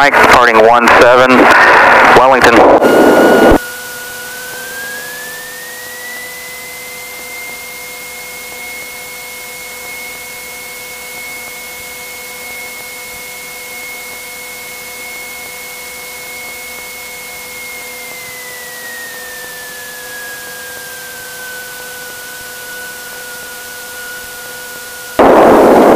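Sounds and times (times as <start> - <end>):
aircraft engine and propeller drone: 0.0 - 25.9
steady high whine: 0.0 - 25.9.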